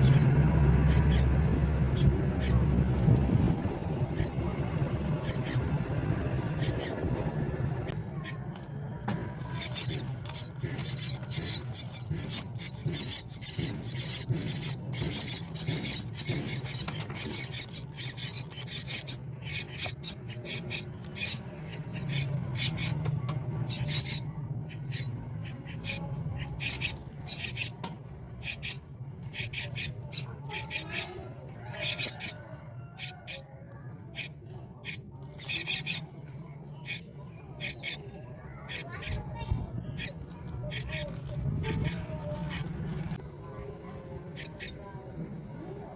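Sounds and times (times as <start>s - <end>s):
nestlings begging calls: 0.0s - 2.8s, 4.0s - 7.4s, 8.2s - 8.5s, 9.4s - 27.8s, 28.4s - 36.1s, 36.7s - 42.6s, 44.3s - 45.0s.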